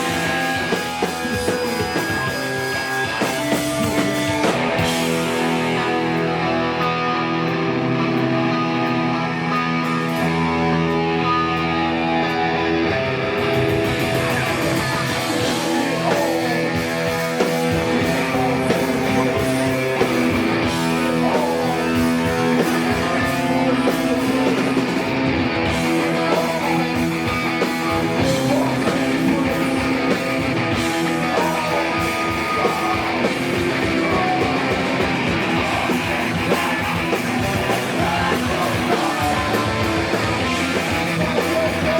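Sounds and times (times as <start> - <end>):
distorted electric guitar: 0.0 - 41.9
punk band playing: 0.0 - 41.9.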